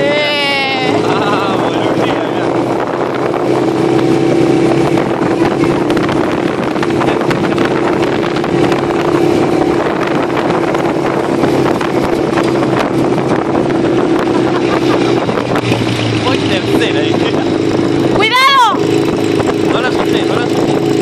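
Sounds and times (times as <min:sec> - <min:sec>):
motorcycle engine passing: 0:00.0 - 0:21.0
wind buffeting microphone: 0:00.0 - 0:21.0.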